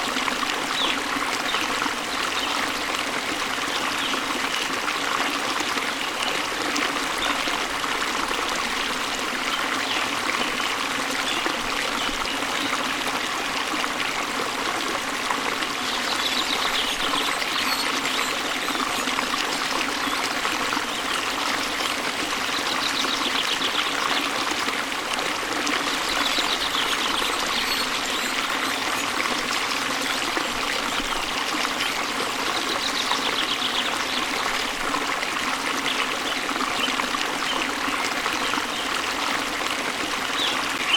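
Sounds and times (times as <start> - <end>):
waterfall and stream flowing: 0.0 - 40.9.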